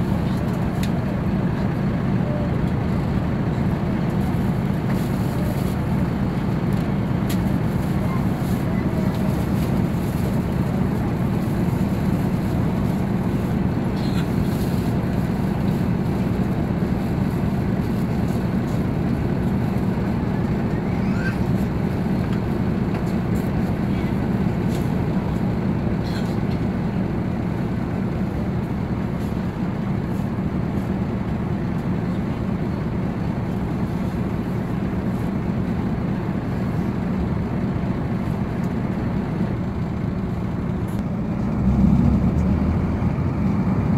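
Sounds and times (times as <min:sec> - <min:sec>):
diesel bus engine idling: 0:00.0 - 0:43.9.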